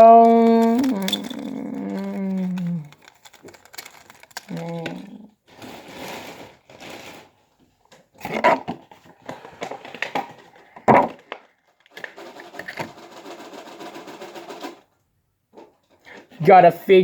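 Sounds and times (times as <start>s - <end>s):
plastic and cardboard rustling: 0.0s - 16.5s.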